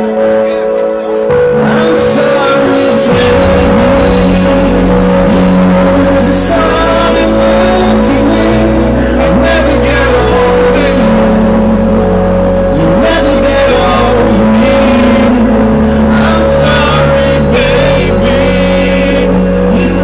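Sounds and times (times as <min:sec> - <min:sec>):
electronic trance music: 0:00.0 - 0:20.0.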